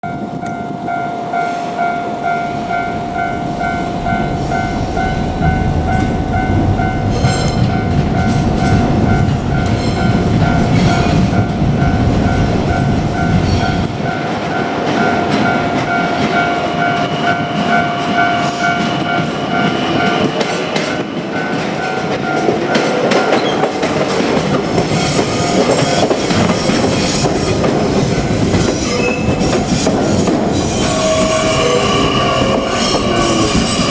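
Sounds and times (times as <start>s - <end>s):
level-crossing warning bell: 0.0s - 33.9s
electric train running: 0.1s - 33.9s
train wheels clacking on rail joints: 2.6s - 33.9s.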